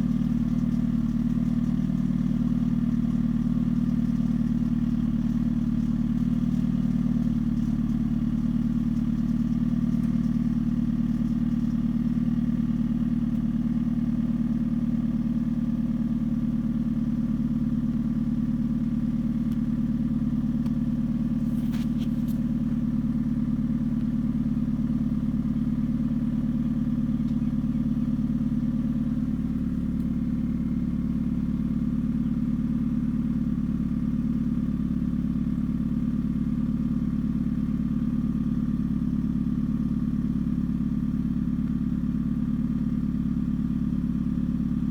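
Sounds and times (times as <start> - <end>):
car engine idling: 0.0 - 44.9
engine rattle: 0.0 - 44.9.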